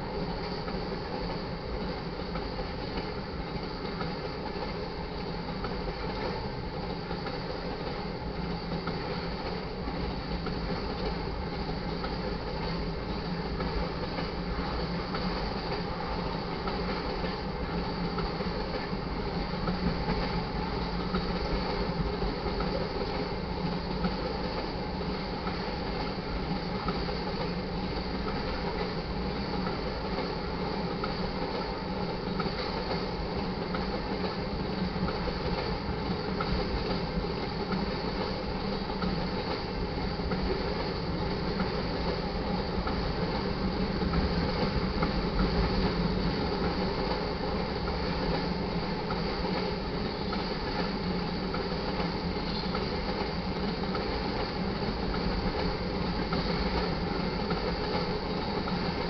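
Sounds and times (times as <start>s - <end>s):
train wheels rumbling and clattering: 0.0s - 59.0s.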